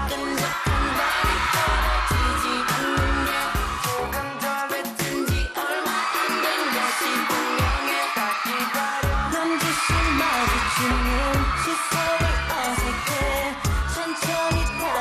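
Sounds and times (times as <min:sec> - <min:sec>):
dance track with heavy bass beat: 0:00.0 - 0:15.0
person singing: 0:00.0 - 0:15.0.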